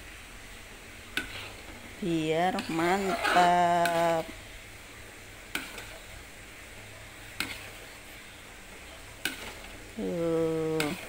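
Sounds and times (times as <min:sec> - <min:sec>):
low steady hiss: 0:00.0 - 0:11.0
spatula stirring sticky mixture: 0:01.0 - 0:11.0.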